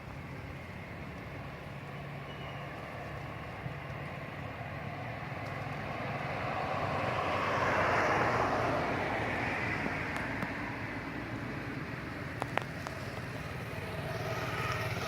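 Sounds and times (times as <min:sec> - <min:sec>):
passing vehicle engine rushing: 0:00.7 - 0:15.0.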